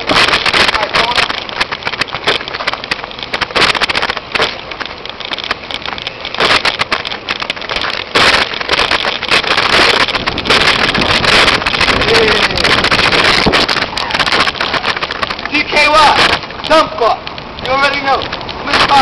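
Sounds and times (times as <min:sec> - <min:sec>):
crackles and knocks: 0:00.0 - 0:19.0
wind on microphone: 0:00.0 - 0:19.0.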